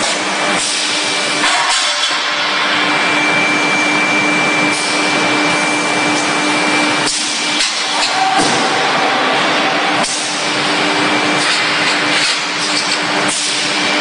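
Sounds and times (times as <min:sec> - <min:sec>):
forging machinery rushing noise: 0:00.0 - 0:14.0.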